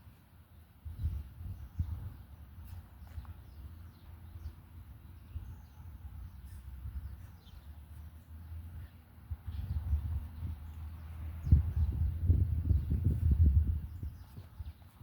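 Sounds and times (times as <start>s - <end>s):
faint bird chirps: 0.5s - 15.0s.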